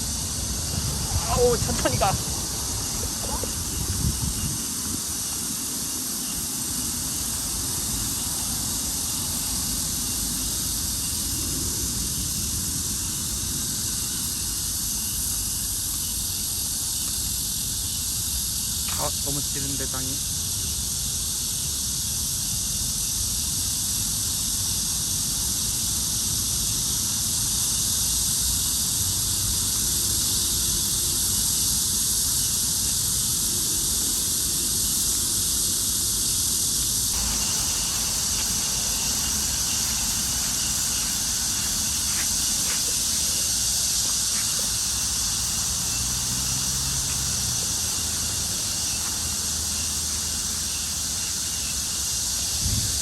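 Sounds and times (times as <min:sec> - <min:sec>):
high outdoor hiss: 0:00.0 - 0:53.0.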